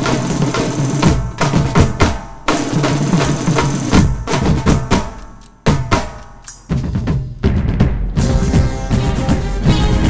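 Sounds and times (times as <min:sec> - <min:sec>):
bass drum: 0:00.0 - 0:10.0
cymbals: 0:00.0 - 0:10.0
tom drums: 0:00.0 - 0:10.0.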